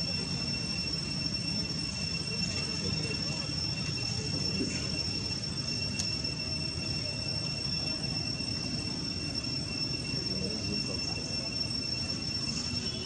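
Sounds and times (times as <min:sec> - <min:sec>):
insect song high-pitched drone: 0:00.0 - 0:13.0.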